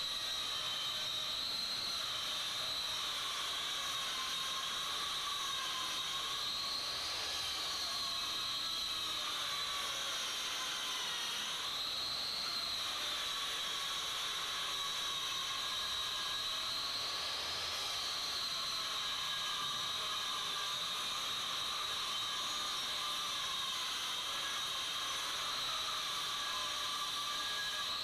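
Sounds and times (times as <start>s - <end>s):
faint wavering whistling tones: 0.0s - 28.0s.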